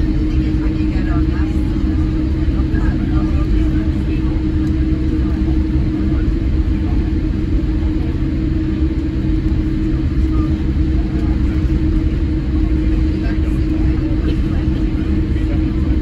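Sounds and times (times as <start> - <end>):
jet engines rumbling in cabin: 0.0 - 16.0
steady low hum: 0.0 - 16.0.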